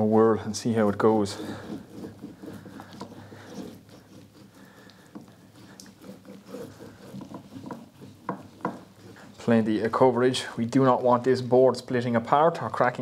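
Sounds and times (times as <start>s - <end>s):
glue roller rolling: 0.7s - 13.0s.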